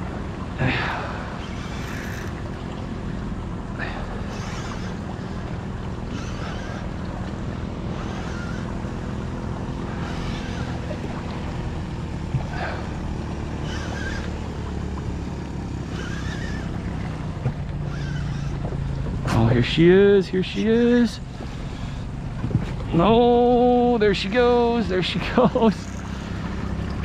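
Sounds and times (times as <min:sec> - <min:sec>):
boat motor humming: 0:00.0 - 0:27.0
water noise: 0:00.0 - 0:27.0
wind: 0:00.0 - 0:27.0.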